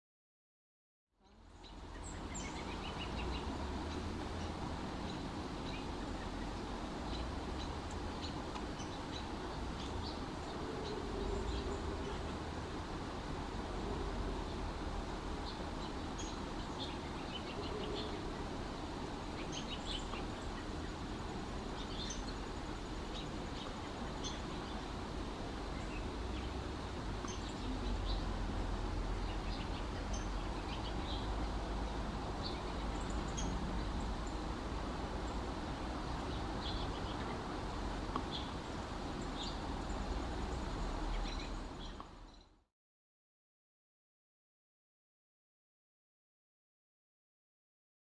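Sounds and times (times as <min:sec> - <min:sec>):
songbirds chirping: 0:01.2 - 0:42.7
low outdoor rumble: 0:01.4 - 0:42.3.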